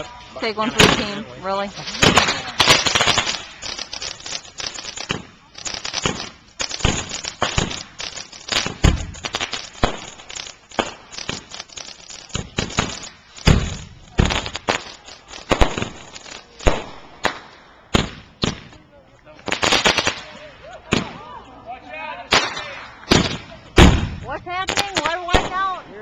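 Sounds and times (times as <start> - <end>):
fireworks bangs: 0.0 - 21.4, 22.3 - 26.0
fireworks crackling: 0.0 - 21.5, 22.1 - 26.0.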